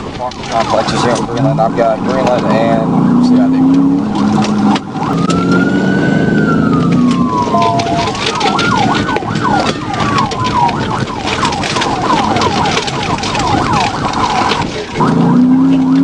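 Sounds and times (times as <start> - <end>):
road and engine noise: 0.0 - 16.0
police siren wailing and yelping: 0.5 - 16.0.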